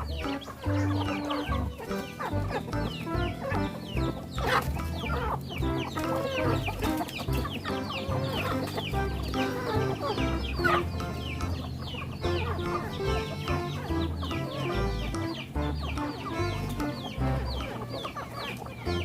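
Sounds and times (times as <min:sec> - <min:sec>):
background music: 0:00.0 - 0:19.0
chickens clucking: 0:00.0 - 0:19.0.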